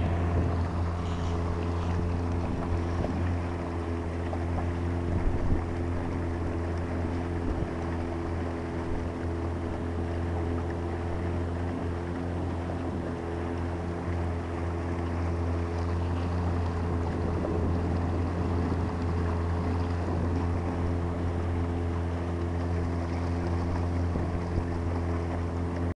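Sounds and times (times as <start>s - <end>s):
boat motor humming: 0.0s - 25.9s
rushing water: 0.0s - 25.9s
wind: 0.0s - 25.9s.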